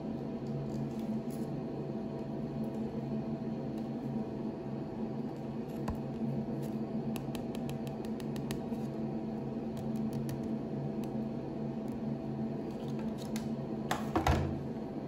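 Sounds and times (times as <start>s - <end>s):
extractor fan humming: 0.0s - 15.0s.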